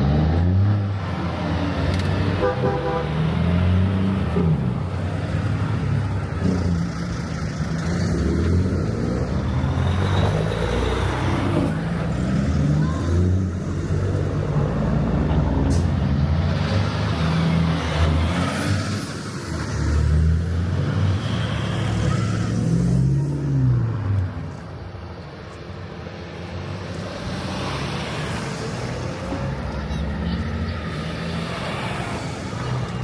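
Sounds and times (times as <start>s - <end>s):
heavy trucks driving past: 0.0s - 33.0s.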